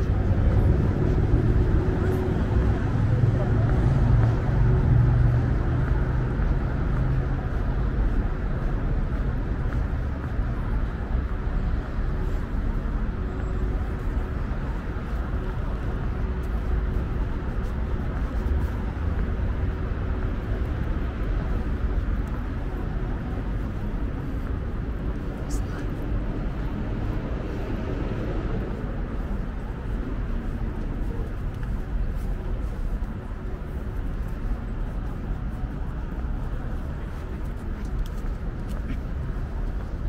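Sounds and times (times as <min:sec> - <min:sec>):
traffic rumble: 0:00.0 - 0:40.0.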